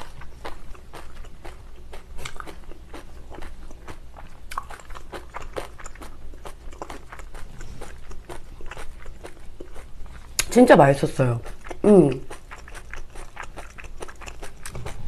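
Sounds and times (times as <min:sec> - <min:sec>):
close chewing with mouth clicks: 0:00.0 - 0:10.6, 0:11.3 - 0:15.0.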